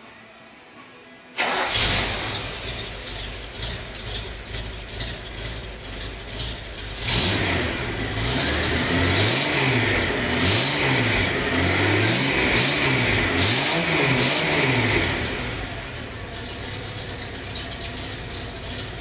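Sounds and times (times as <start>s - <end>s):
car engine revving: 1.4s - 19.0s.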